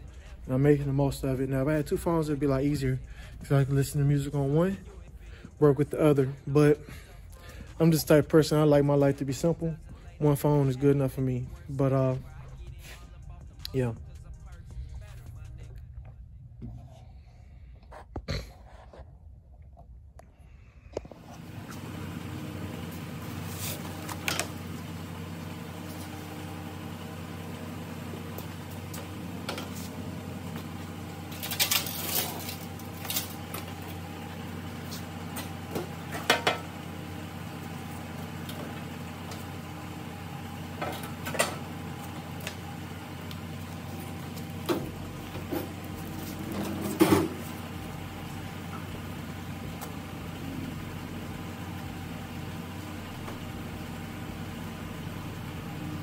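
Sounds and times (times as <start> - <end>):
workshop hum: 0.0 - 56.0.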